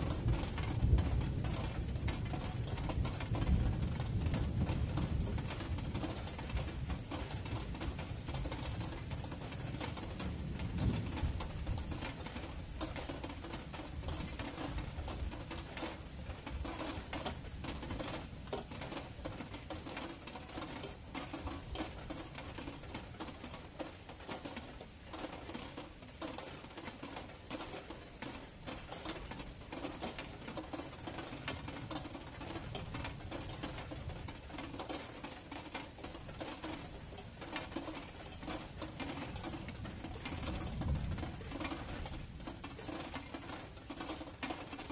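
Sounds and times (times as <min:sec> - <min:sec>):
rain drops pattering: 0:00.0 - 0:44.9.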